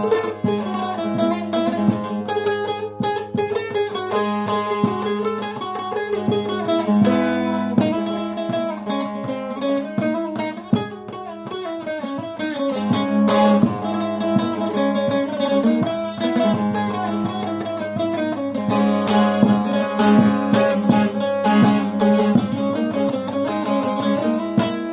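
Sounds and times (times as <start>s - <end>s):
long-necked lute plucked melody: 0.0s - 24.9s.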